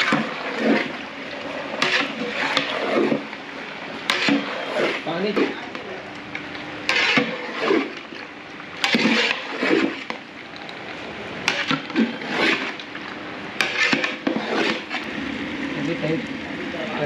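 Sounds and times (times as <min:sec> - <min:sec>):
ladle scraping metal pot: 0:00.0 - 0:15.1
food frying in oil hiss: 0:00.0 - 0:17.0.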